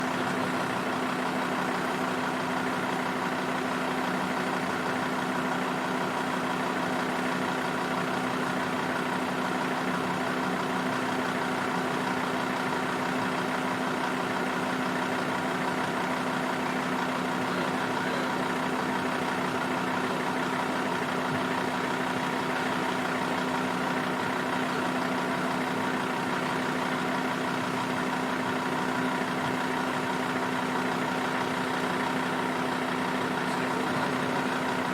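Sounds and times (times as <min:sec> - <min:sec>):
car engine running steadily: 0:00.0 - 0:34.9.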